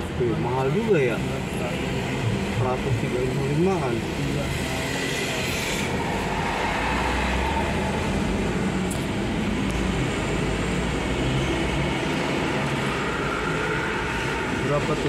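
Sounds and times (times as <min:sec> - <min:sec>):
road and engine noise in car cabin: 0:00.0 - 0:15.0.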